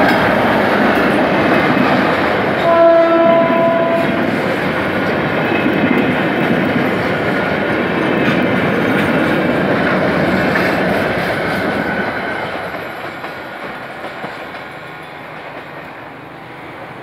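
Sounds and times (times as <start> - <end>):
train wheels clickety-clack on rails: 0.0 - 17.0.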